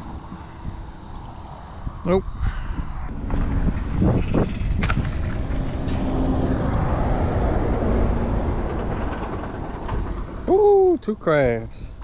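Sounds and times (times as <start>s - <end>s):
vehicle passing rumble: 0.0s - 10.5s.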